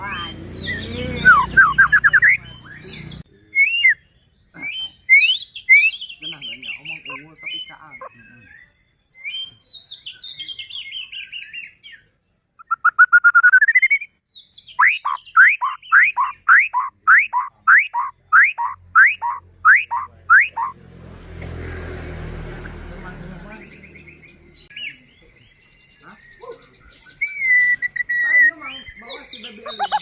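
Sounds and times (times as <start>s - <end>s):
bird singing: 0.0s - 20.8s, 21.9s - 30.0s.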